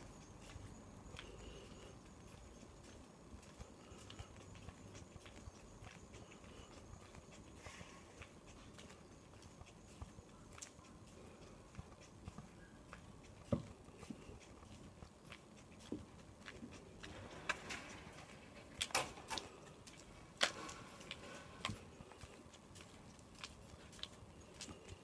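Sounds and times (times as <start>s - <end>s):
footsteps on asphalt: 0.0s - 25.0s.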